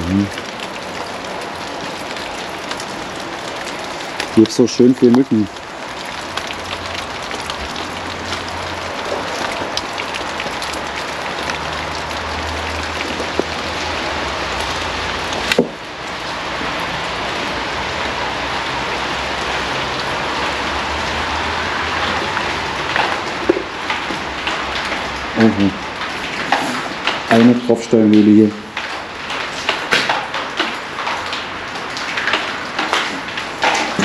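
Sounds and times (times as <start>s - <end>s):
rain pattering: 0.0s - 34.0s.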